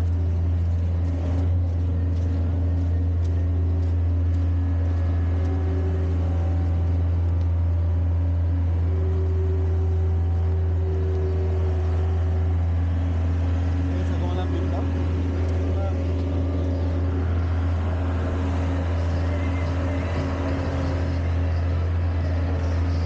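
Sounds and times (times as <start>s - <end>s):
heavy equipment engines running: 0.0s - 23.0s.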